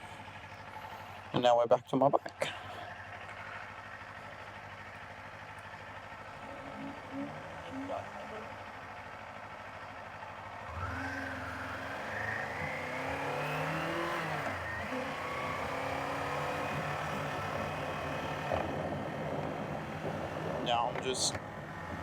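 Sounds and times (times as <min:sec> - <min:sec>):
motorcycle engine accelerating: 0:02.4 - 0:22.0.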